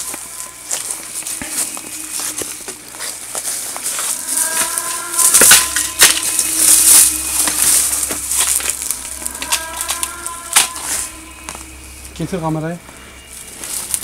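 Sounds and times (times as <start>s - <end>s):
footsteps crunching through undergrowth: 0.0s - 14.0s.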